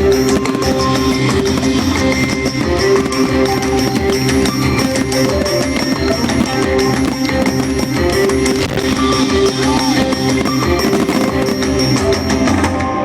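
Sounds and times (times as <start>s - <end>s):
drum kit beat: 0.0s - 11.8s.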